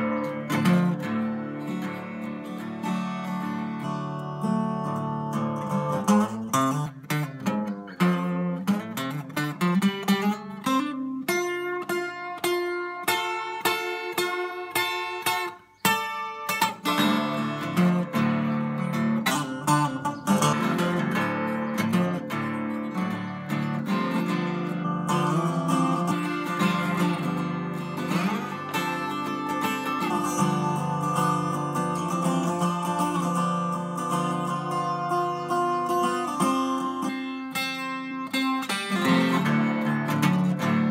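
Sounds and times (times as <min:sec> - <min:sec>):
twelve-string acoustic guitar: 0:00.0 - 0:40.9.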